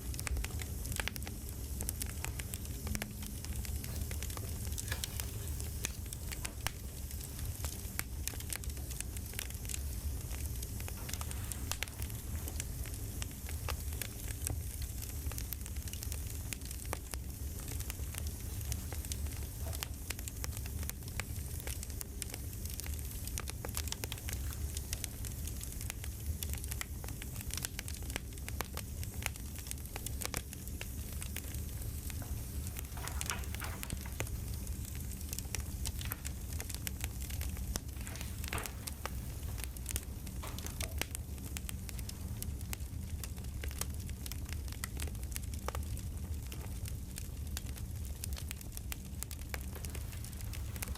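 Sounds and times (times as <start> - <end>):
campfire crackling: 0.0 - 50.9.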